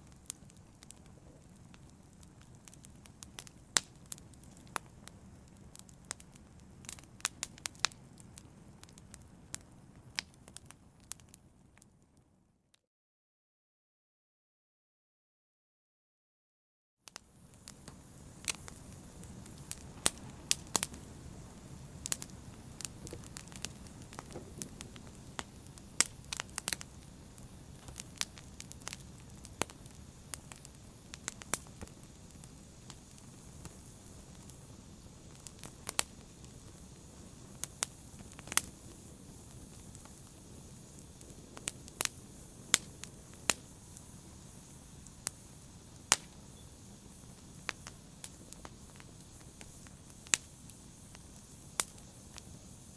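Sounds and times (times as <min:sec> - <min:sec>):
fire crackling and popping: 0:00.0 - 0:12.3, 0:17.1 - 0:52.9
soft rustle of flame: 0:00.0 - 0:12.6, 0:17.1 - 0:52.9.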